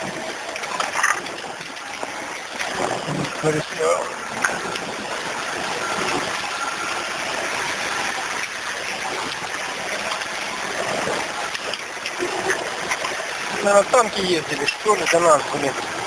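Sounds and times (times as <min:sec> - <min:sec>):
vehicle engine and tyre noise: 0:00.0 - 0:16.0
water and mud sloshing: 0:00.0 - 0:16.0.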